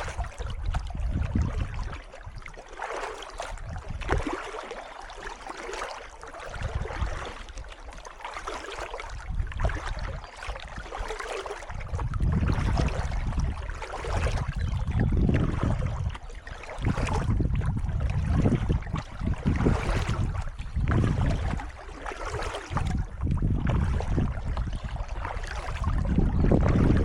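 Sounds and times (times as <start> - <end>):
wind rumble on microphone: 0.0 - 2.5, 3.2 - 4.6, 6.4 - 27.0
paddle strokes splashing water: 0.0 - 27.0.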